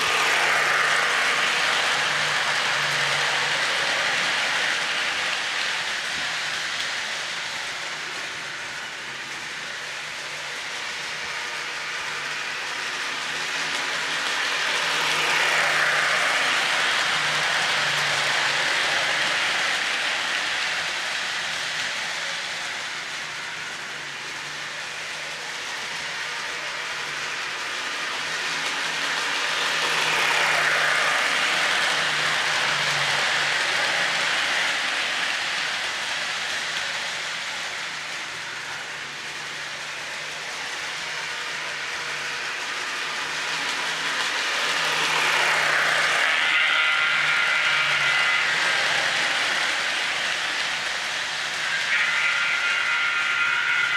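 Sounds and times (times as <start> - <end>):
model train wheels rattling on track: 0.0 - 53.9.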